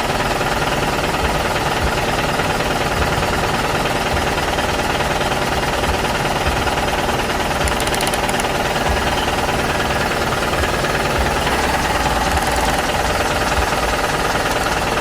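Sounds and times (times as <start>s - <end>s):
engine with knocking rattle: 0.0s - 15.0s.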